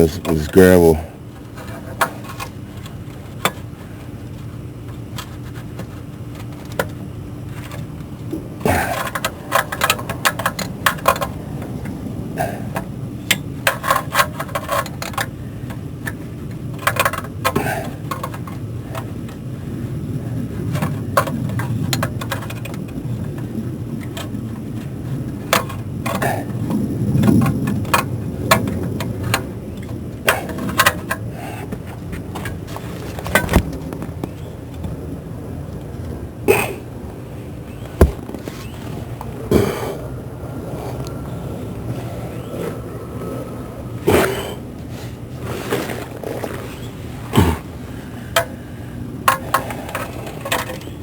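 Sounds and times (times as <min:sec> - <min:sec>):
steady low rumble: 0:00.0 - 0:49.3.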